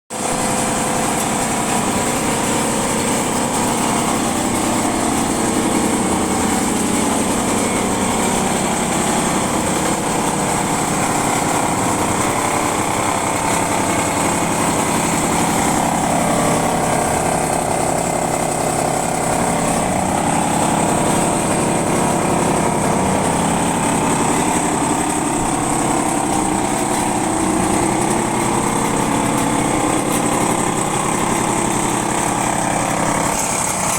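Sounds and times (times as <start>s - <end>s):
scooter engine idling: 0.1s - 33.9s.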